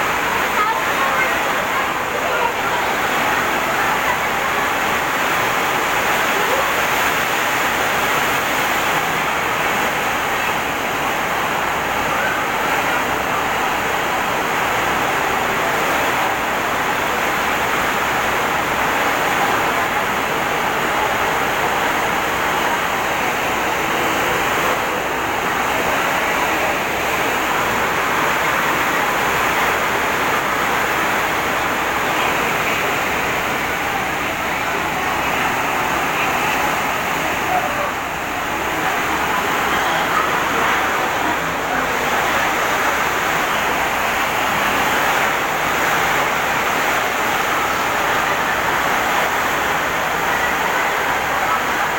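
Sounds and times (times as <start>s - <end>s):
heavy rain: 0.0s - 51.9s
strong wind: 0.0s - 51.9s.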